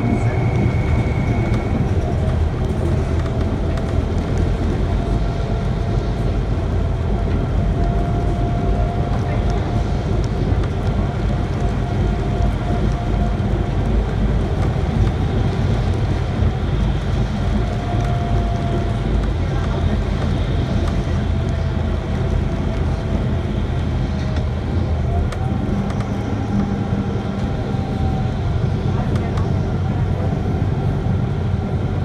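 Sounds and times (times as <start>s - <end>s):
faint steady whine: 0.0s - 31.8s
bus engine and road rumble: 0.0s - 32.0s.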